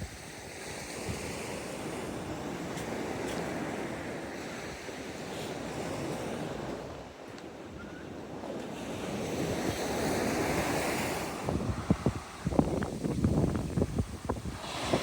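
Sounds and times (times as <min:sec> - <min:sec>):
sea waves washing onto beach: 0:00.0 - 0:15.0
wind on microphone: 0:00.0 - 0:15.0.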